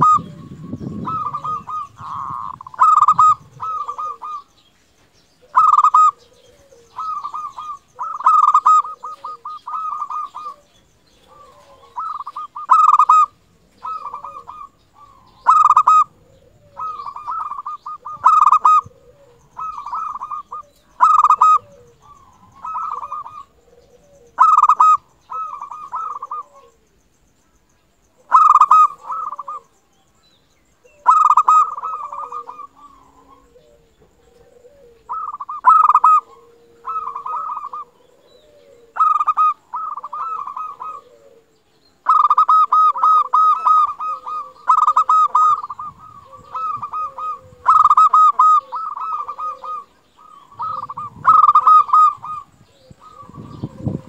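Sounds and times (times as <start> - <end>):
dove cooing: 0.0 - 27.0, 28.1 - 29.8, 30.8 - 54.0.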